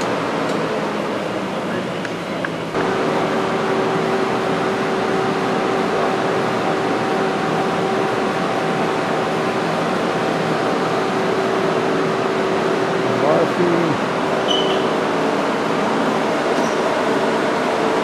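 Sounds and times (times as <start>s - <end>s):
lathe idling with whine: 0.1s - 18.0s.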